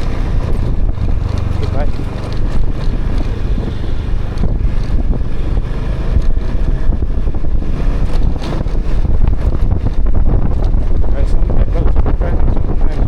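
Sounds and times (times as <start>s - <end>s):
motorbike engine rumble: 0.0s - 13.0s
wind buffeting microphone: 0.0s - 13.0s.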